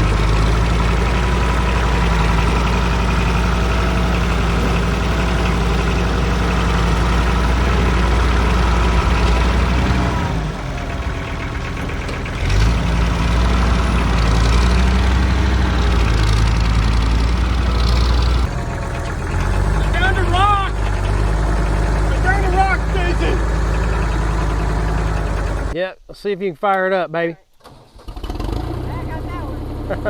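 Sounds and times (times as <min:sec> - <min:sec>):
tractor engine running: 0:00.0 - 0:25.8, 0:27.6 - 0:30.0.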